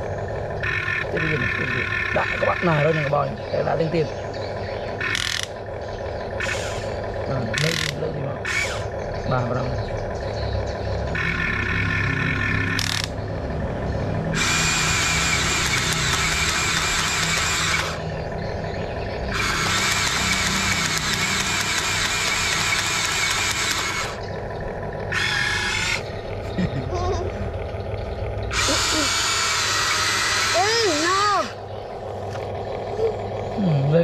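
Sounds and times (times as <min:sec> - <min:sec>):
electric motors whining: 0:00.0 - 0:34.0
steady low hum: 0:00.0 - 0:34.0.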